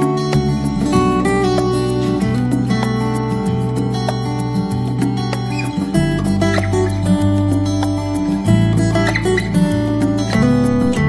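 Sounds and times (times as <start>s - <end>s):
acoustic guitar: 0.0s - 11.0s
steady bass line: 0.0s - 11.0s.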